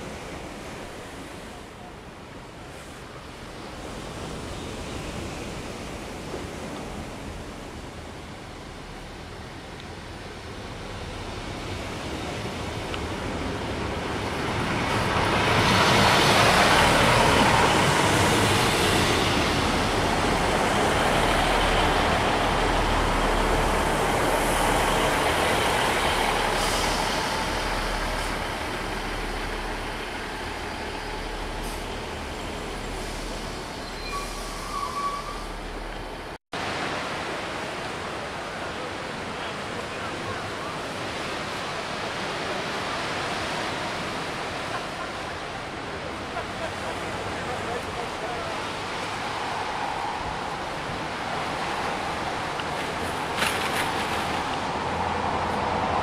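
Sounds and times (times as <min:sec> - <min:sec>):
sea surf: 0:00.0 - 0:56.0
train passing: 0:02.7 - 0:37.8, 0:39.8 - 0:56.0.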